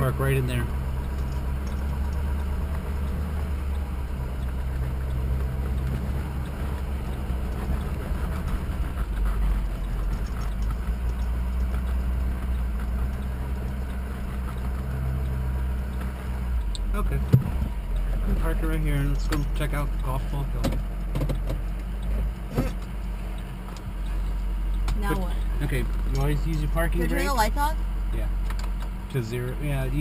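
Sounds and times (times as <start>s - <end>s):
truck engine rumble: 0.0s - 30.0s.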